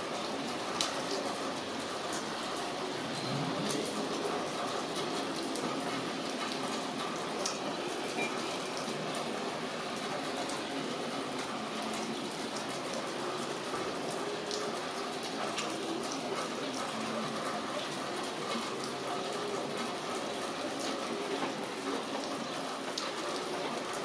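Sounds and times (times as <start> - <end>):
raindrops ticking on surfaces: 0.0 - 24.0
steady rain falling: 0.0 - 24.0.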